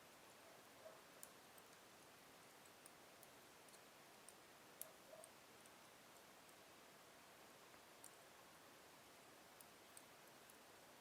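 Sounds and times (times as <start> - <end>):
low hiss: 0.0 - 11.0
logs crackling in fireplace: 0.1 - 11.0.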